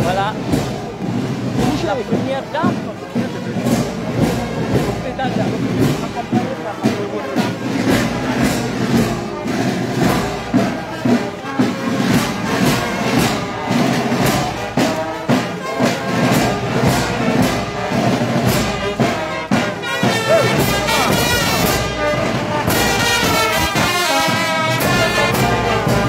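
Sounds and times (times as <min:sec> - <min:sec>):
brass band music: 0:00.0 - 0:26.0
steady drum beat: 0:00.0 - 0:26.0.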